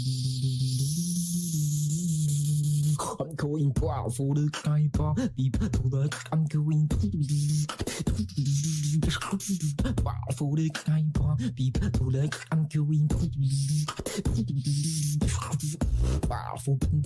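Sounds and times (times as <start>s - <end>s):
beatboxing into a microphone: 0.0s - 17.0s
low bass notes: 0.0s - 17.0s.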